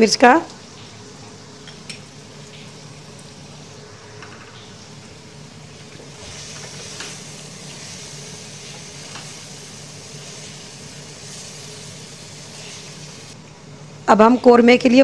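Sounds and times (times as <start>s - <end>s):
food sizzling in oil: 0.0s - 13.4s.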